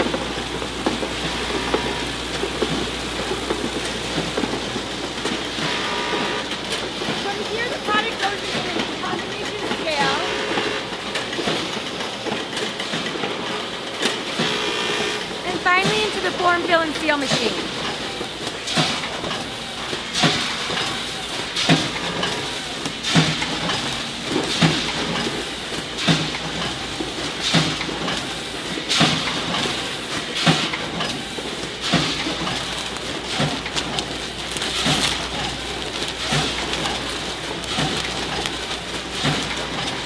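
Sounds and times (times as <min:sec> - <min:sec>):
hiss of running machinery: 0:00.0 - 0:40.0.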